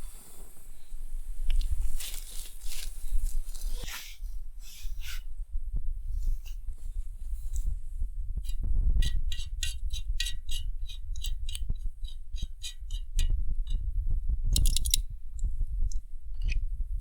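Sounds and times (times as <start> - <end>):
low wind rumble on microphone: 0.0 - 17.0.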